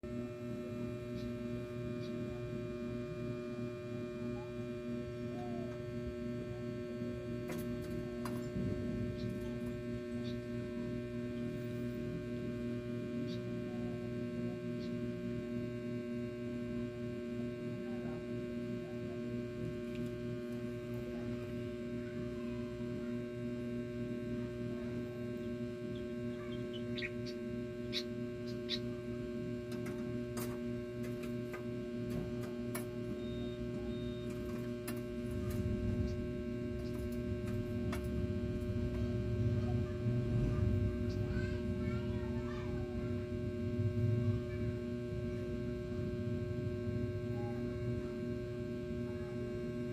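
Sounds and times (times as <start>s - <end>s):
steady electrical hum: 0.0s - 49.9s.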